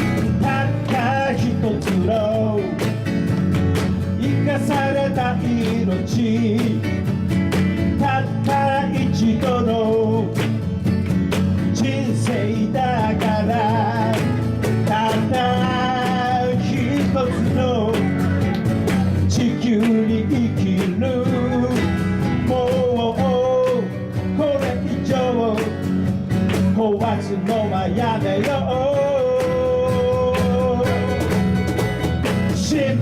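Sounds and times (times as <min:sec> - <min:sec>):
live band playing: 0:00.0 - 0:33.0.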